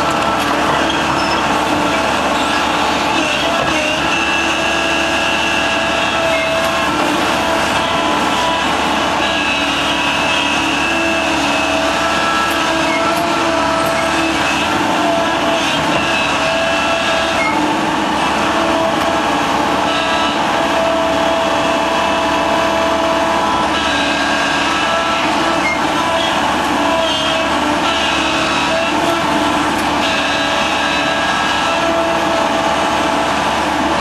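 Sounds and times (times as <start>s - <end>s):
excavator diesel engine and hydraulics: 0.0s - 34.0s
hydraulic whining: 0.0s - 34.0s.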